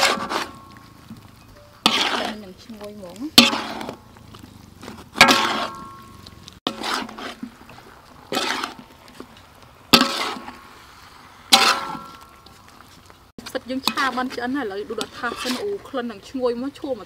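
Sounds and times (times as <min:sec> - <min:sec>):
metal spatula scraping a wok: 0:00.0 - 0:16.3.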